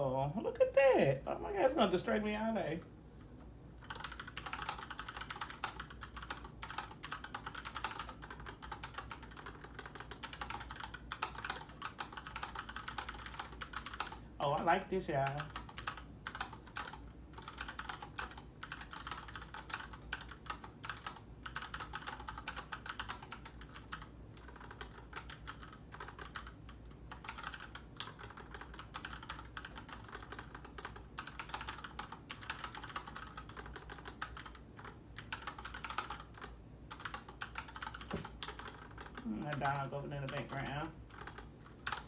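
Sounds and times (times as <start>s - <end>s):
fast keyboard typing: 3.8s - 42.0s.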